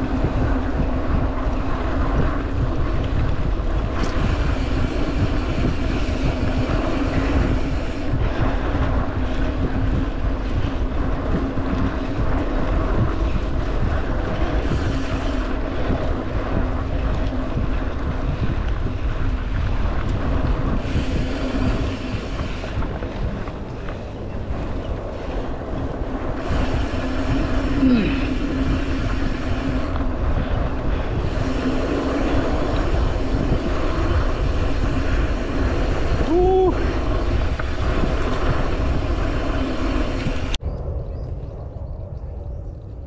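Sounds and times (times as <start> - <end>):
mountain bike rolling on dirt: 0.0 - 40.7
wind buffeting the microphone: 0.0 - 43.0.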